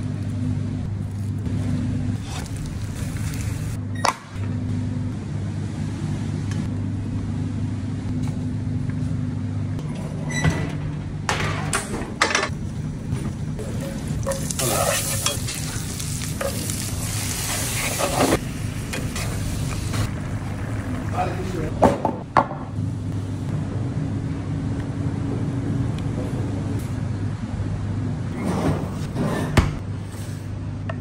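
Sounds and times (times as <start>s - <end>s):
kitchen machinery humming: 0.0s - 31.0s.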